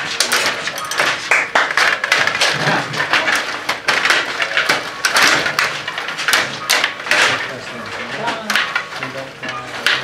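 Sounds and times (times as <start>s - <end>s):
table hockey clattering clicks: 0.0s - 10.0s.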